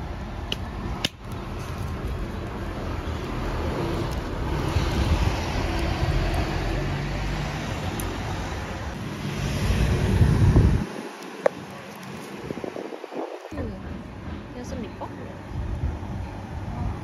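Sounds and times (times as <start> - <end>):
cars passing: 0.0 - 17.0.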